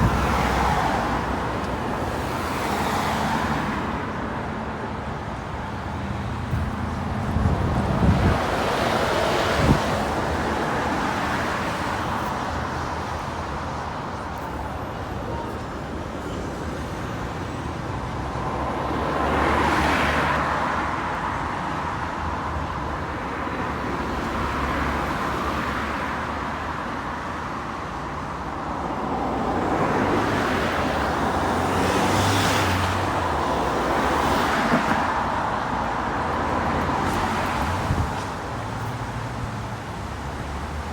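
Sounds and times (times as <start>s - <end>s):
vehicles passing: 0.0s - 40.9s.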